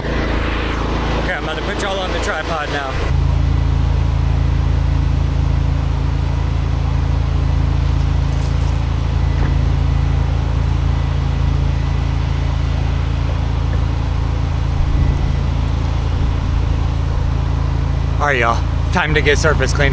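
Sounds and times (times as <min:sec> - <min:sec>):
pressure washer engine running: 0:00.0 - 0:19.9.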